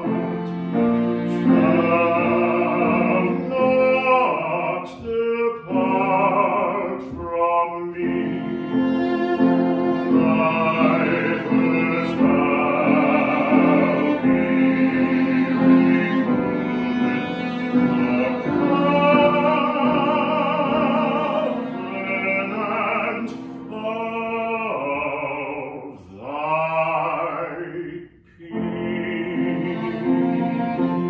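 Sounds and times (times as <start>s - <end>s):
cello: 0.0s - 27.8s, 28.4s - 31.0s
grand piano: 0.0s - 31.0s
baritone singing operatically: 1.3s - 8.7s, 10.1s - 16.4s, 17.3s - 30.2s.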